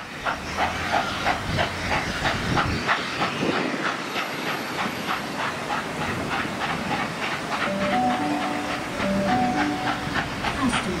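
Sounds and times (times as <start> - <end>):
steady steam hiss: 0.0 - 11.0
steam locomotive exhaust chuffs: 0.0 - 11.0.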